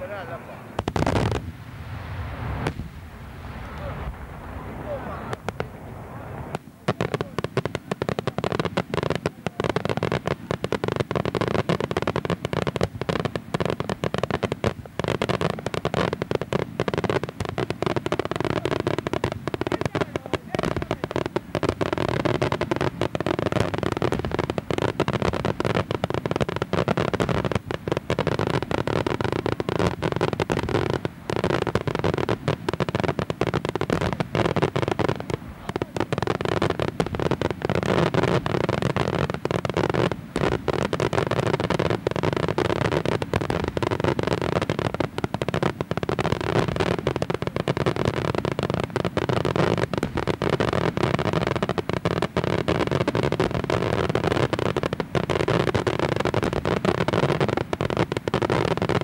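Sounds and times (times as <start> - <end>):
fireworks bursts and crackling bangs: 0.0 - 59.0.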